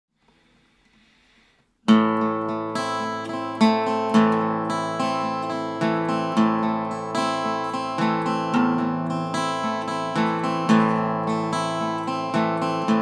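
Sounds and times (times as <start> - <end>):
acoustic guitar strummed: 1.8 - 13.0.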